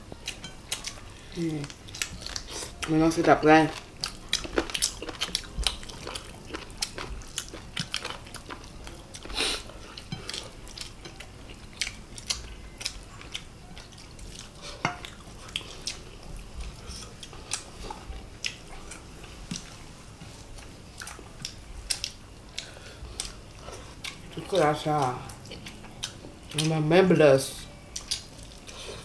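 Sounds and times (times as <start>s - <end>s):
people chewing and biting: 0.0s - 2.9s, 3.7s - 19.8s, 20.4s - 26.7s, 27.8s - 29.0s.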